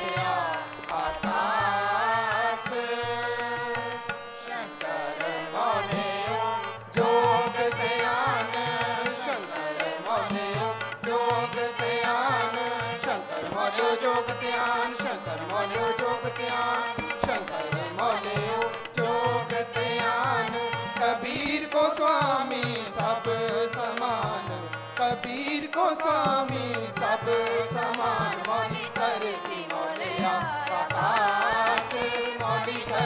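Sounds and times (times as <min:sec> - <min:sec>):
harmonium: 0:00.0 - 0:33.0
singers running wordless melodies: 0:00.0 - 0:33.0
tabla: 0:00.0 - 0:33.0.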